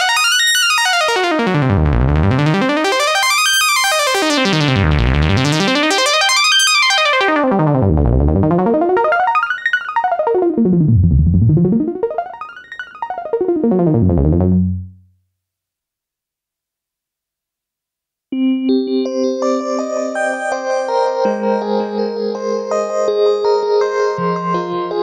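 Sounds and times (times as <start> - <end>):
synthesizer arpeggio: 0.0 - 15.1, 18.4 - 25.0.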